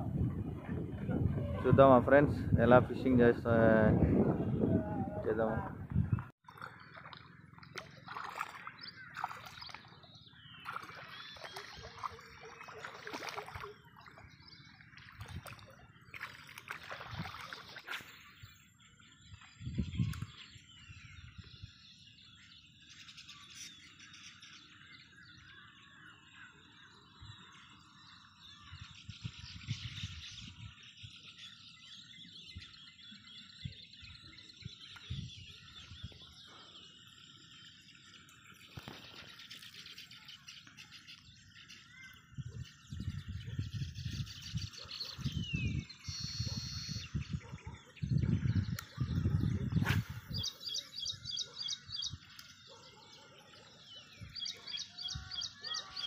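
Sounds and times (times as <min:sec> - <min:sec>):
birds chirping: 0:00.0 - 0:56.0
wading through water and reeds: 0:06.1 - 0:31.4, 0:34.2 - 0:56.0.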